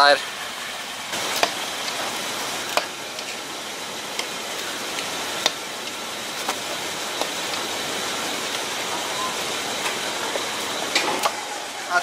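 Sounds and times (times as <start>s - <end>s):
steady outdoor hiss: 0.0s - 12.0s
tire rim clicking on concrete: 1.1s - 11.6s.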